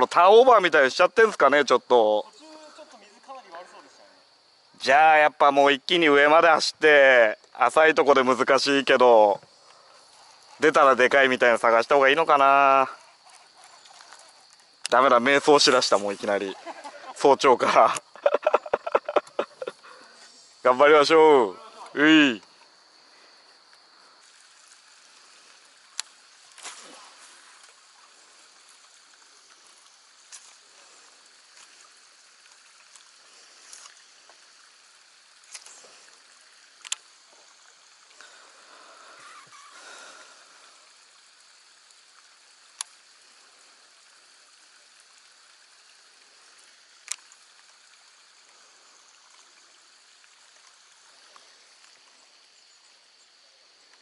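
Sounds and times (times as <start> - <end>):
water trickling and lapping: 0.0 - 4.9, 5.6 - 54.0
faint steady hiss: 0.0 - 54.0.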